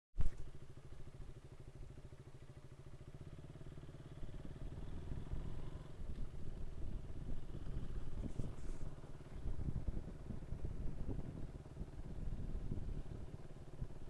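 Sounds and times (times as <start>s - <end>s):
motorcycle engine running: 0.2s - 14.0s.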